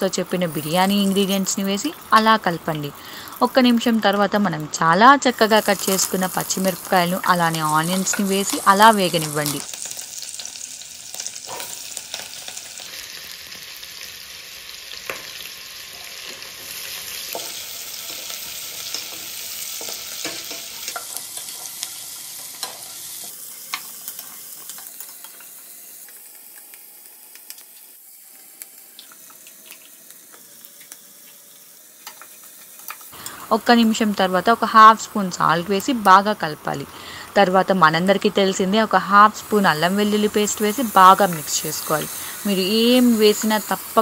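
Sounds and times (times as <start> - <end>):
onions sizzling in oil: 0.0 - 44.0.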